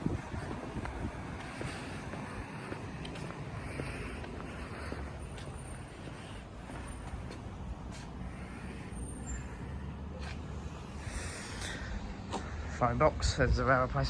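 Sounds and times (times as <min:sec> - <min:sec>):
heavy vehicle engine rumble: 0:00.0 - 0:14.0.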